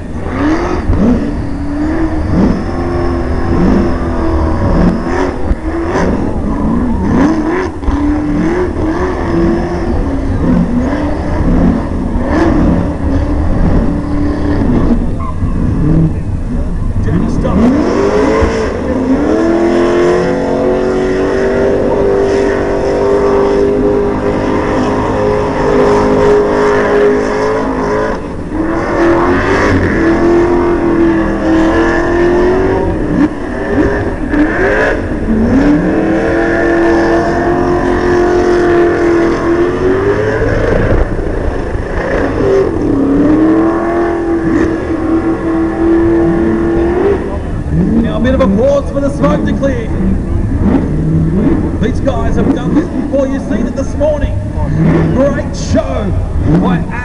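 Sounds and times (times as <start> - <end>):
car engines revving high: 0.0 - 57.0
rumbling noise: 0.0 - 57.0.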